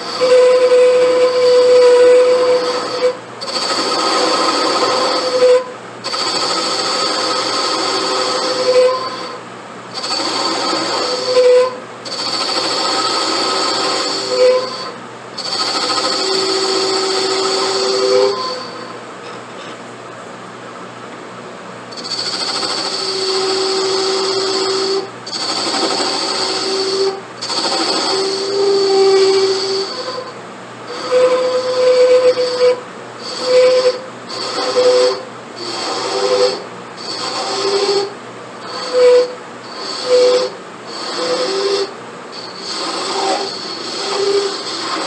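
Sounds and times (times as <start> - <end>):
power tool running in bursts: 0.0 - 18.9, 21.9 - 30.3, 30.9 - 45.0.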